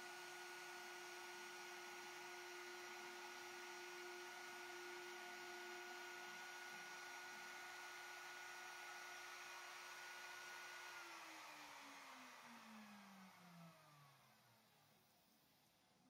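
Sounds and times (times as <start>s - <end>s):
router spindle whine: 0.0s - 14.6s.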